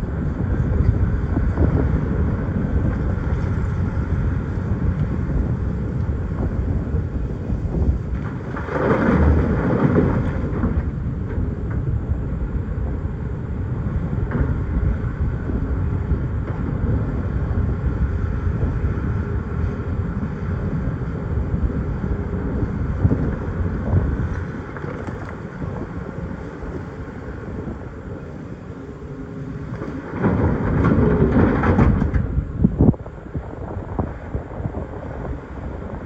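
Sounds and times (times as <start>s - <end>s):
excavator diesel engine rumbling: 0.0s - 36.0s.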